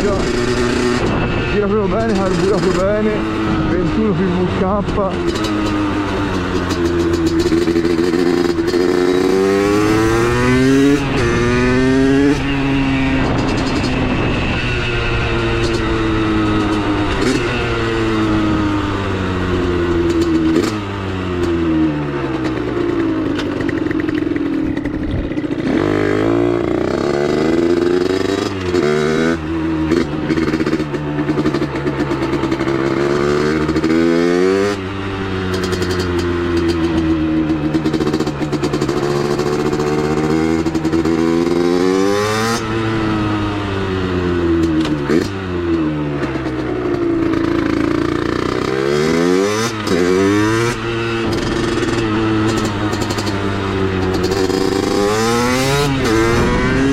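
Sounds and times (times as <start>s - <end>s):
two-stroke motorcycle revving: 0.0s - 56.9s.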